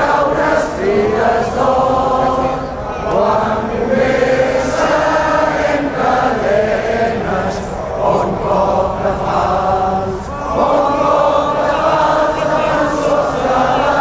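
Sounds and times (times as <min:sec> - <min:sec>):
voices singing in unison: 0:00.0 - 0:14.0.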